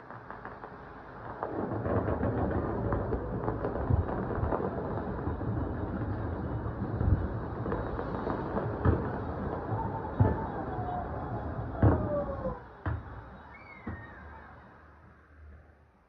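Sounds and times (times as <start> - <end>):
fireworks bursting: 0.0 - 15.5.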